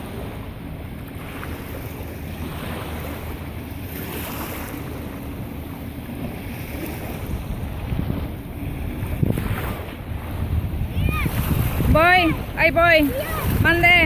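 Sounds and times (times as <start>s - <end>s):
faint jet ski drone: 0.0s - 14.0s
small waves lapping: 0.0s - 14.0s
wind on microphone: 0.0s - 14.0s.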